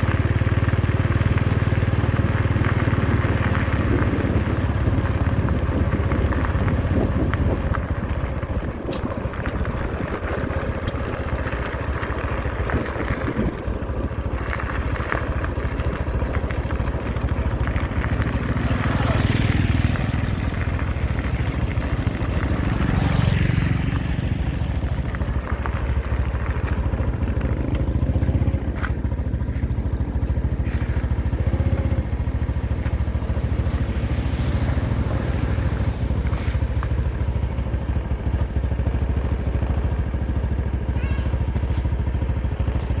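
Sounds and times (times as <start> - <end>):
diesel engine throbbing: 0.0 - 43.0.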